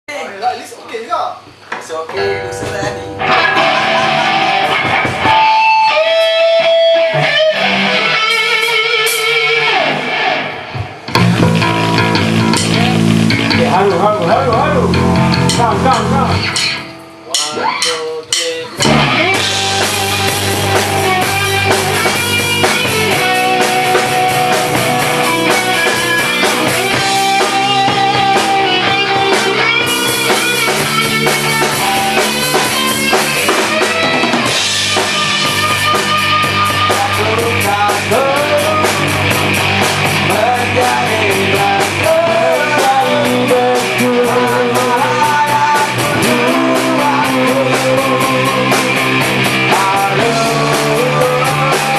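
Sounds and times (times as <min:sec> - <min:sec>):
drum kit: 0:01.4 - 0:51.9
electric guitar: 0:02.1 - 0:51.9
bass guitar: 0:02.2 - 0:51.9.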